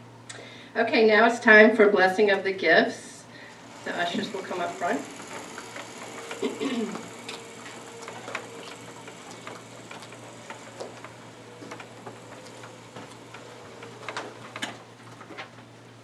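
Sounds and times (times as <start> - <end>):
sound system hum: 3.1 - 16.0.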